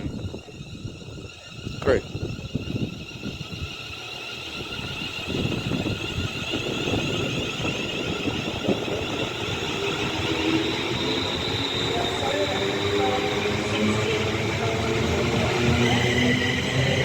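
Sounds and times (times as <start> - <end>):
electric train motor whine: 0.0 - 17.0
train low rumble: 0.0 - 17.0.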